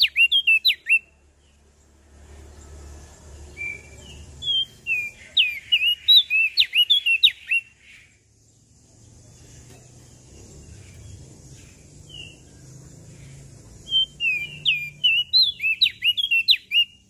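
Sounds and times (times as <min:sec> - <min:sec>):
songbird chirping and whistling: 0:00.0 - 0:01.6, 0:02.6 - 0:08.6, 0:09.2 - 0:17.0.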